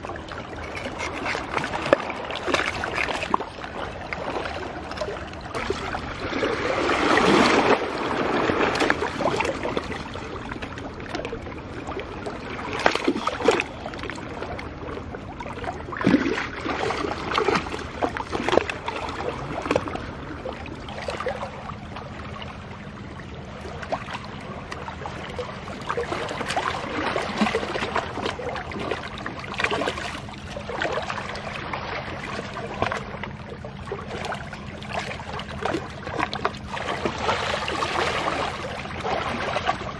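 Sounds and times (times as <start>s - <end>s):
stream water splashing: 0.0s - 39.9s.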